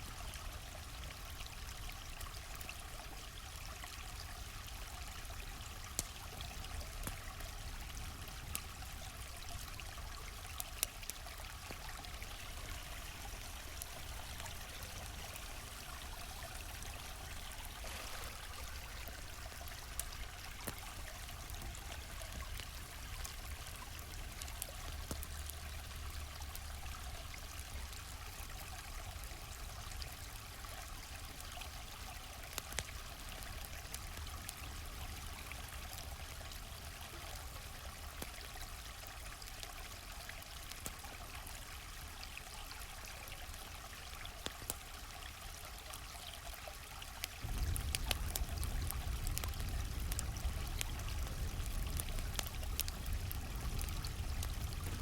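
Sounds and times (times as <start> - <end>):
stream flowing: 0.0 - 55.0
campfire popping and crackling: 0.3 - 55.0.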